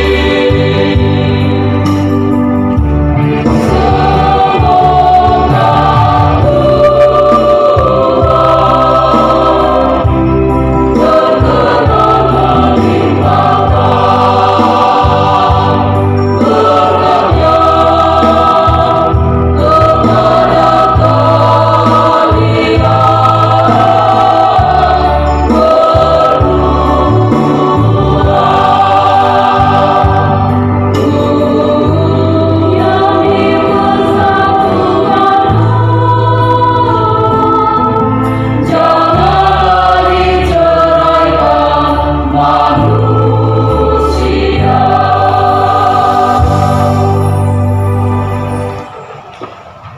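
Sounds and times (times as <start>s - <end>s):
choir singing a hymn: 0.0s - 49.3s.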